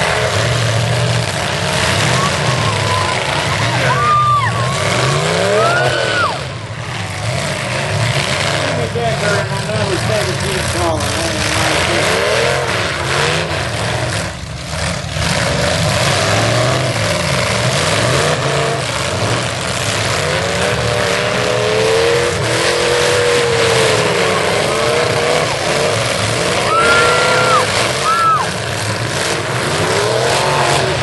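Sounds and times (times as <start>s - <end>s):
car engines revving hard: 0.0s - 31.0s.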